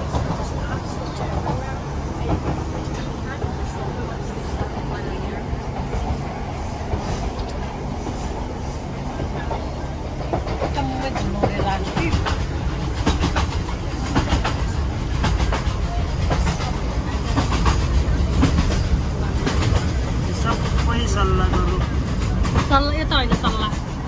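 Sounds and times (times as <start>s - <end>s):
train rumbling: 0.0s - 24.0s
train wheels clicking over rail joints: 0.0s - 24.0s.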